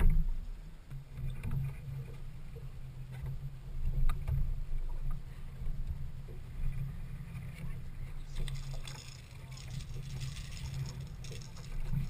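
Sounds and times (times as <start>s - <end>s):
boat low uneven rumble: 0.0s - 12.0s.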